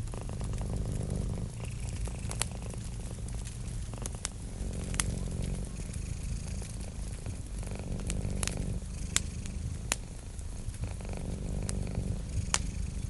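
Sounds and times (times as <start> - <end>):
cat purring: 0.0 - 13.0
wood fire crackling and popping: 0.0 - 13.0.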